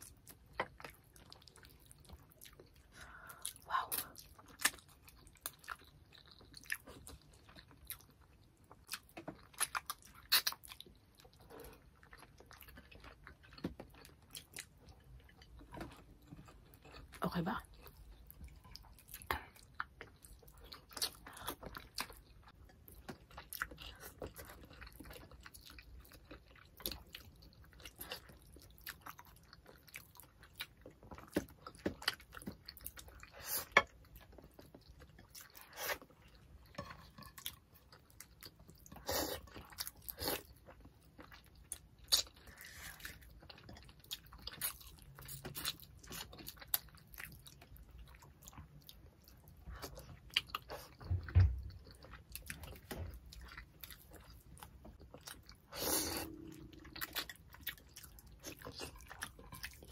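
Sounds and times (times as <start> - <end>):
wet chewing and lip smacking: 0.0 - 59.9.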